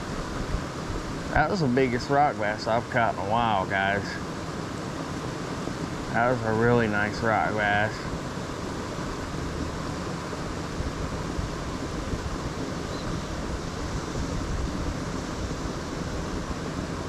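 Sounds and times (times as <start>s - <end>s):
creek water over rocks: 0.0s - 17.0s.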